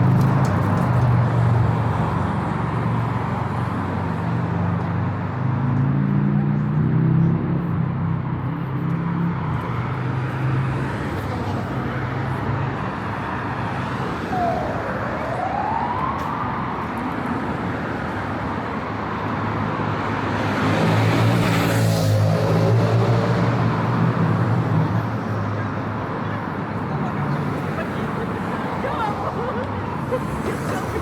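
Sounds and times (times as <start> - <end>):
cars passing: 0.0 - 31.0.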